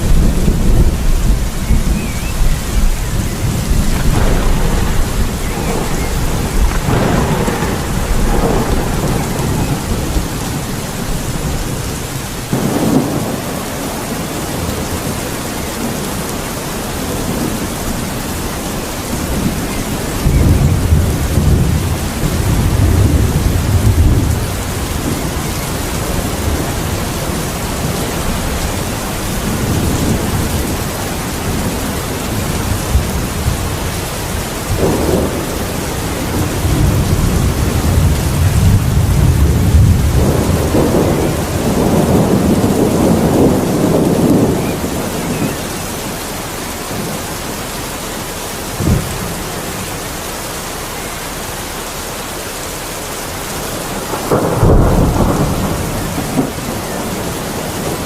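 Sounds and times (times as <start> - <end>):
thunder clap: 0.0 - 46.2, 48.7 - 49.9, 53.7 - 58.0
low thunder rumbles: 0.0 - 50.5, 52.2 - 58.0
steady rain: 0.0 - 58.0.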